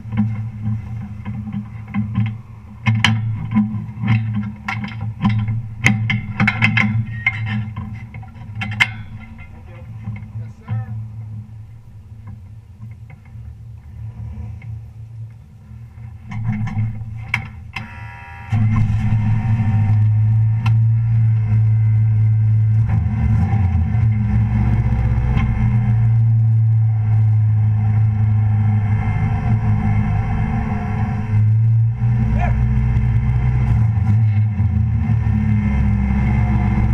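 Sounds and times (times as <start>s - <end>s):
truck engine turning over: 0.0s - 14.9s, 15.8s - 36.9s.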